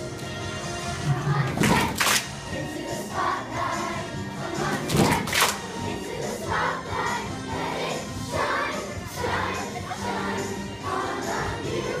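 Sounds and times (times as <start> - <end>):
background music: 0.0 - 12.0
children's choir singing: 0.8 - 12.0.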